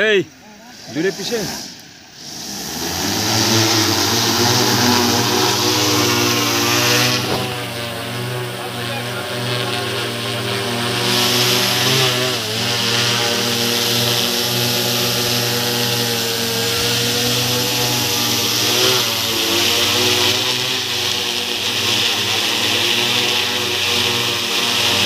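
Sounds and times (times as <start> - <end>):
drone propellers droning: 0.0 - 25.0.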